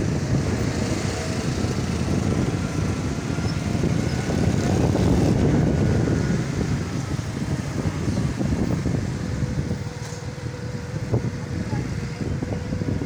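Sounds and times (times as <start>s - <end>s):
street traffic: 0.0s - 13.0s
vehicle engine running: 0.0s - 13.0s.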